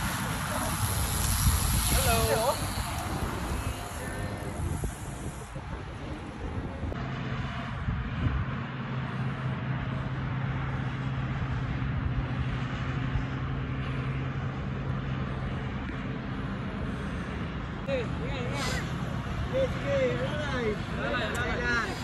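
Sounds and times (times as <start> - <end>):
steady low hum: 0.0 - 22.0
wind and road noise: 0.0 - 22.0.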